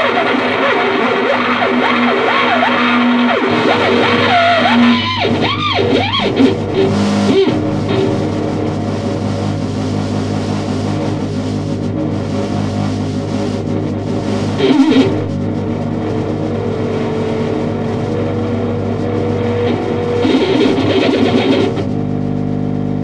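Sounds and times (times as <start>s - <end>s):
distorted theremin pitch glides: 0.0s - 23.0s
harsh buzzing drone: 0.0s - 23.0s.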